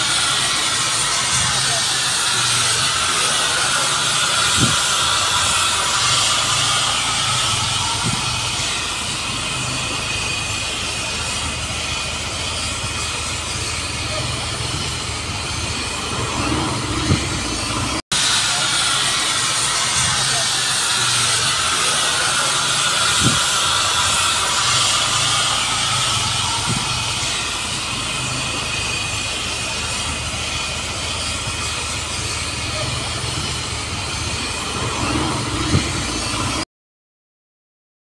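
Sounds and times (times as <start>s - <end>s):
steam hissing: 0.0s - 36.6s.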